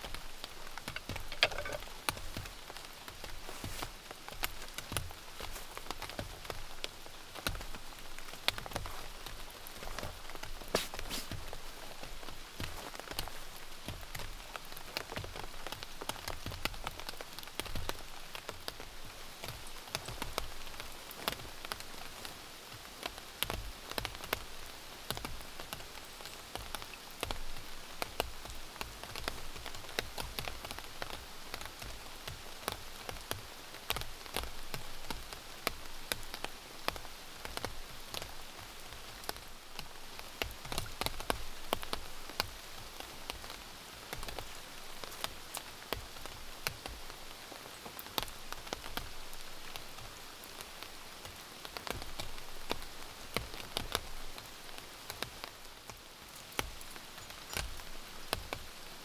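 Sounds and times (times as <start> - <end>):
rain falling: 0.0 - 59.0
raindrops ticking: 0.0 - 59.0.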